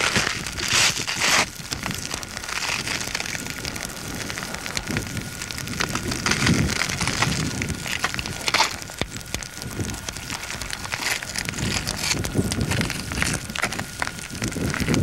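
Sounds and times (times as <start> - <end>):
faint high whine: 0.0 - 15.0
lava crackling and hissing: 0.0 - 15.0
low rumble: 1.6 - 15.0.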